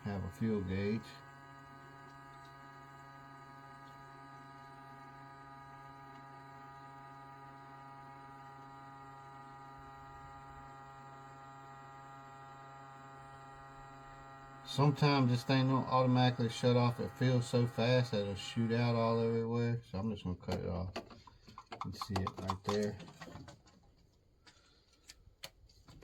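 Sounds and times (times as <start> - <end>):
electric fuel pump humming: 0.0 - 26.0.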